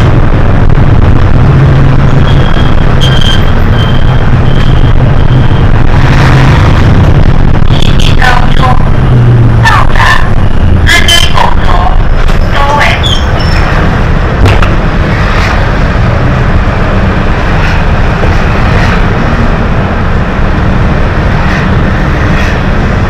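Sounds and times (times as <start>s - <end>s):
bus diesel and road rumble: 0.0s - 23.0s.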